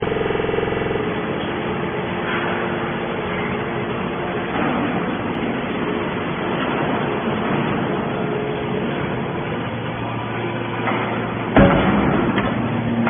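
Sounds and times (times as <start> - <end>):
hydraulic baler running: 0.0 - 13.0.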